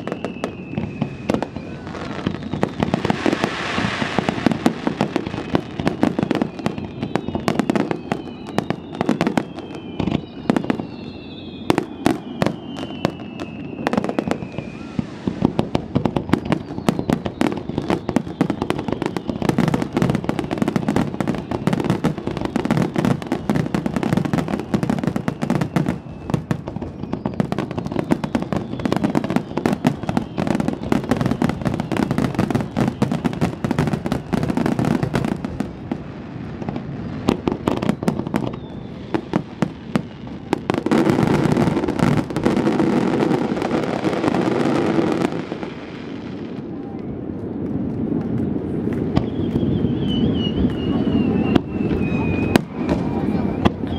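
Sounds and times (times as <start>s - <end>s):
falling firework whistles: 0.0s - 46.6s, 49.0s - 53.9s
fireworks bangs and crackles: 0.0s - 53.9s.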